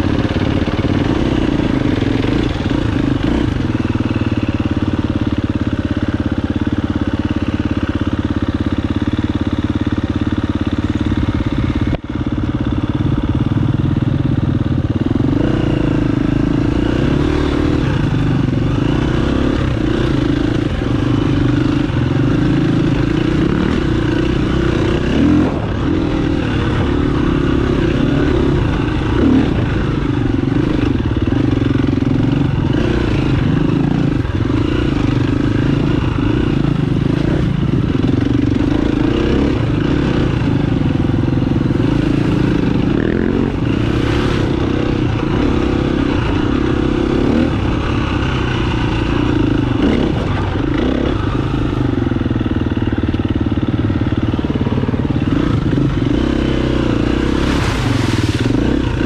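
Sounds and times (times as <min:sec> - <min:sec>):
dirt bike engine revving: 0:00.0 - 0:08.2, 0:09.1 - 0:59.0.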